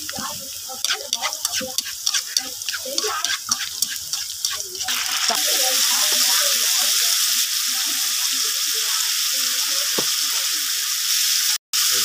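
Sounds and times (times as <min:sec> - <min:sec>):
garlic crackling in hot oil: 0:00.0 - 0:12.0
loud steady sizzle: 0:00.0 - 0:12.0.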